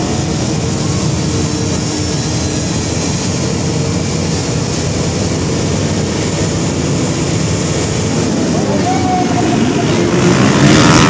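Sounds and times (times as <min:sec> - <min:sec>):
motocross bike engines droning: 0:00.0 - 0:11.0.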